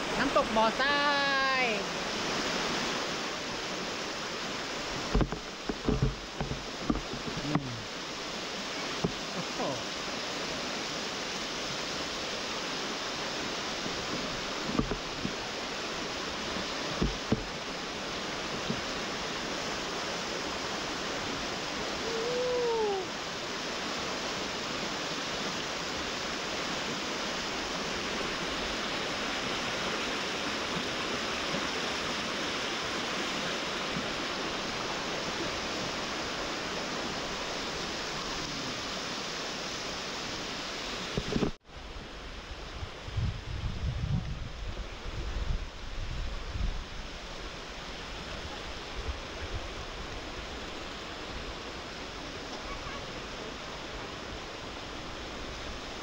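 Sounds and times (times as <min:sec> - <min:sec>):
waterfall rushing: 0:00.0 - 0:43.5, 0:44.4 - 0:56.0.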